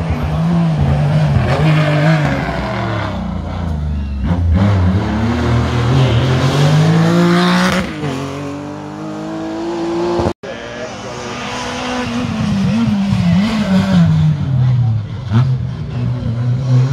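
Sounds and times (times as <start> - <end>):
rally car engine revving: 0.0 - 16.9.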